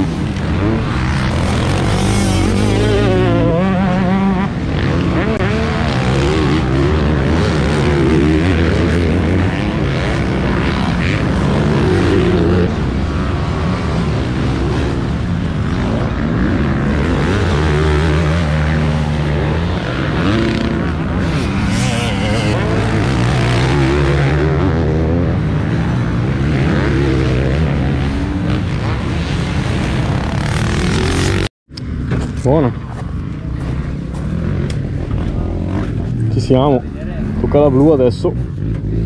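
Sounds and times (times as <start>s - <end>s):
motocross engines revving: 0.0s - 39.0s.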